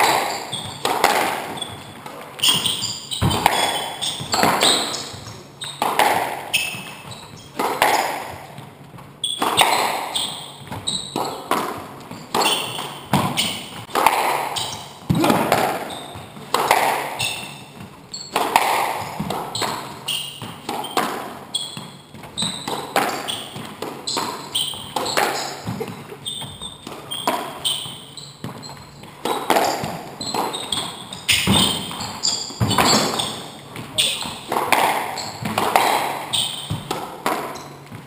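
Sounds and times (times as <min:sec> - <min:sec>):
shoes squeaking on wooden floor: 0:00.0 - 0:38.0
squash ball hitting rackets and walls: 0:00.0 - 0:38.0.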